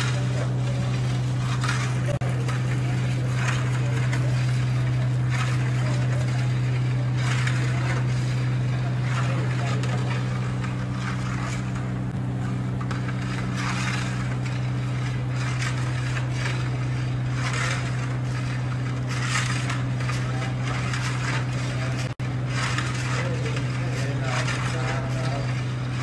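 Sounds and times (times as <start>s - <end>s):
low mechanical hum: 0.0s - 26.0s
syrup stirred swishing: 0.0s - 26.0s.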